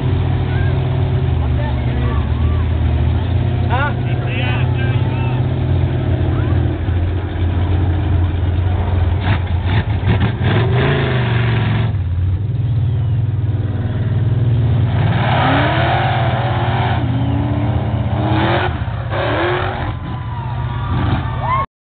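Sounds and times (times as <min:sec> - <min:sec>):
truck engine revving: 0:00.0 - 0:21.7.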